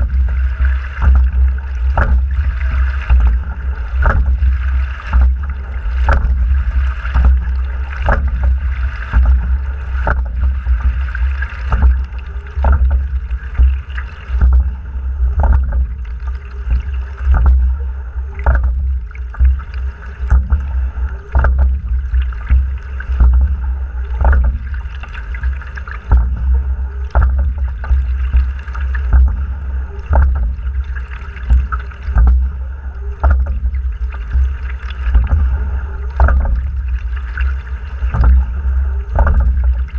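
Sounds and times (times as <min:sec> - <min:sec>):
heavy low rumble: 0:00.0 - 0:39.9
sharp knock of rowing stroke: 0:00.0 - 0:39.9
water rushing along hull: 0:00.0 - 0:39.9.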